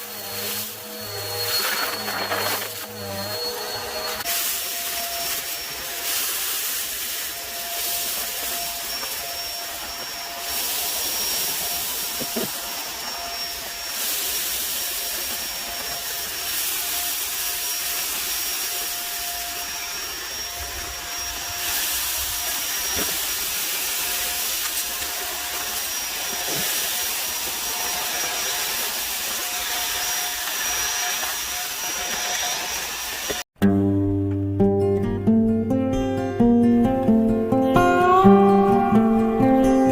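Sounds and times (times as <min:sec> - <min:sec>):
high-pitched whine: 0:00.0 - 0:33.4
vacuum cleaner running: 0:00.0 - 0:33.5.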